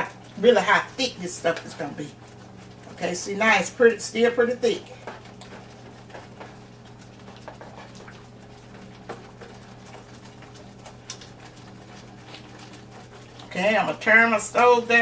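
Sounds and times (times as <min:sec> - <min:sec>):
gravy bubbling and popping: 0:00.0 - 0:15.0
steady low hum: 0:00.0 - 0:15.0.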